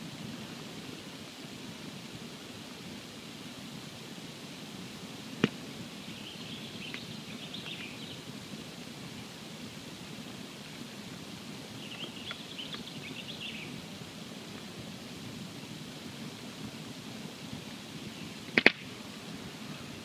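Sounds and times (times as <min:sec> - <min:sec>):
campfire rushing: 0:00.0 - 0:20.0
high-pitched fire crackling: 0:00.0 - 0:20.0.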